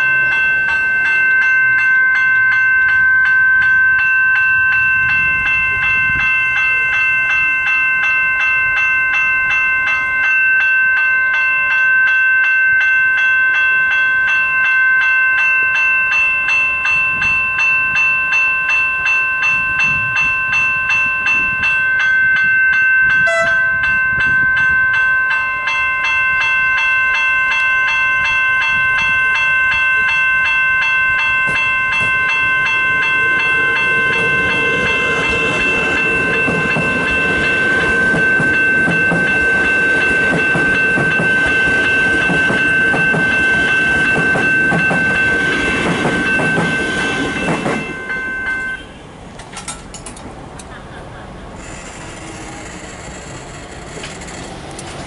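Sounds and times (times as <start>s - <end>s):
electric train passing: 0.0s - 55.0s
level crossing warning bells: 0.0s - 55.0s.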